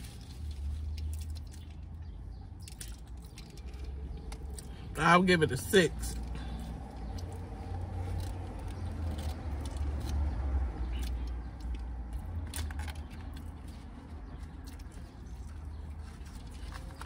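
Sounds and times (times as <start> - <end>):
food being handled and chewed: 0.0 - 17.0.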